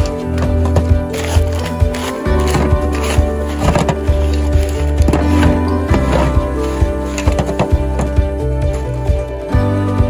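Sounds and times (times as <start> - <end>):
steady bass: 0.0 - 10.0.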